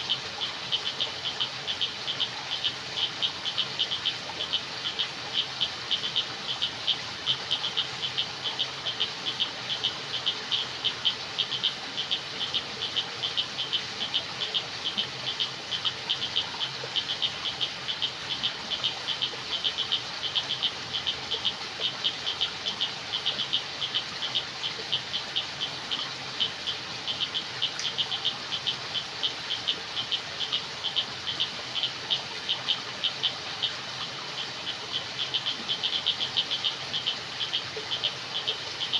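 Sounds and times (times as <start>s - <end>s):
frogs and insects calling: 0.0s - 38.9s.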